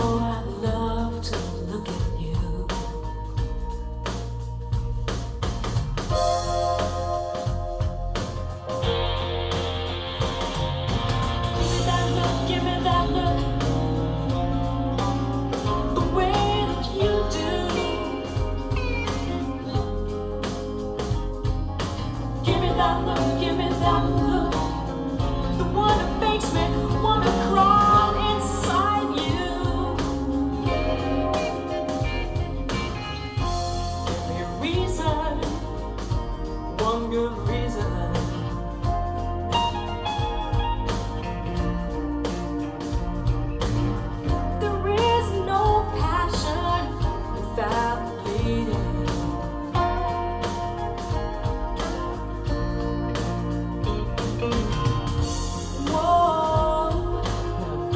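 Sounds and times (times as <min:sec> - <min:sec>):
song with singing voice: 0:00.0 - 0:04.3, 0:06.1 - 0:57.9.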